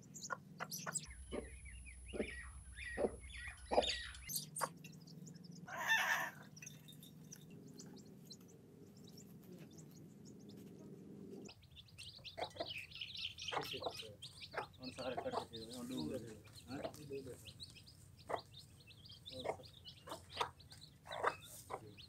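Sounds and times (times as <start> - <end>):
chicks peeping: 0.0 - 22.0
hen clucking: 0.0 - 22.0.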